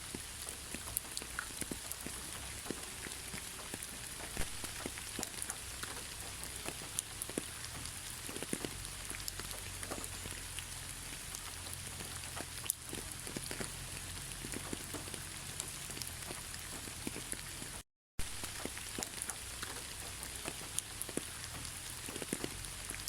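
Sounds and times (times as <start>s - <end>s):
raindrops pattering and ticking: 0.0s - 23.0s.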